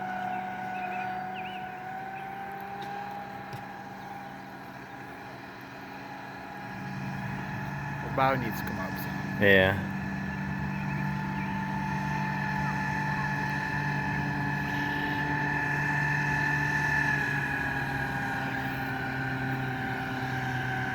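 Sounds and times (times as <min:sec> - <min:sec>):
outboard motor running: 0:00.0 - 0:20.9.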